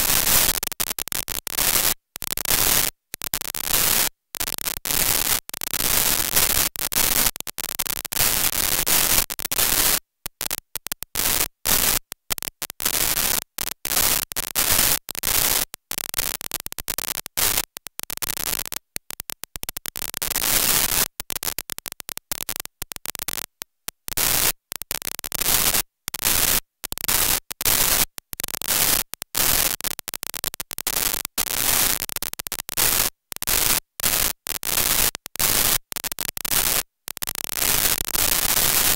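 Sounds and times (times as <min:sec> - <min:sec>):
glitching digital static: 0:00.0 - 0:38.9.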